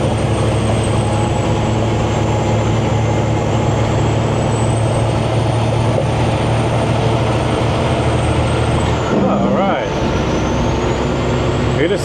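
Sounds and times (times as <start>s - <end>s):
diesel truck engine droning: 0.0s - 12.0s
road noise: 0.0s - 12.0s.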